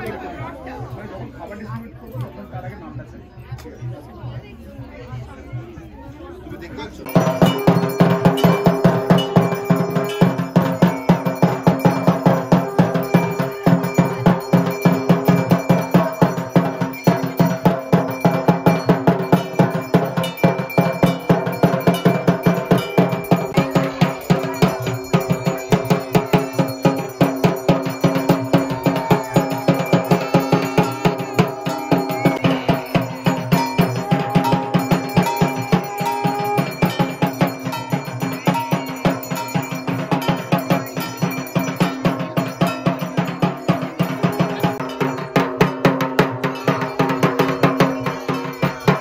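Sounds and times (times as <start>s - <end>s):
drums beaten in fast rhythm: 0.0s - 49.0s
metallic ringing: 7.1s - 49.0s.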